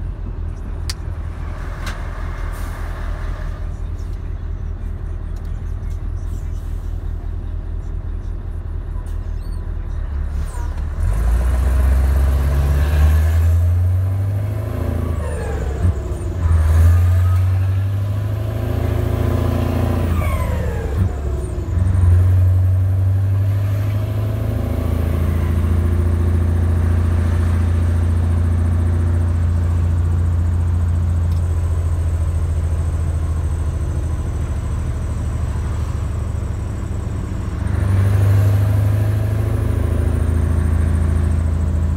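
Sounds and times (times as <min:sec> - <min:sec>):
truck engine: 0:00.0 - 0:41.9.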